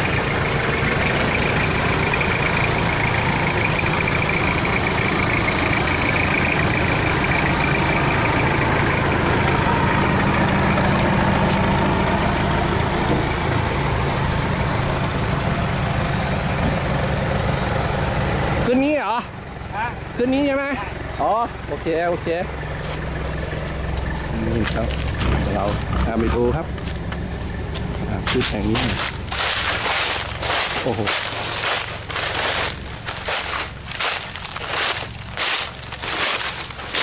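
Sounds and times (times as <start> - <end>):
diesel engine running: 0.0 - 37.0
truck crawling over dirt: 0.0 - 37.0.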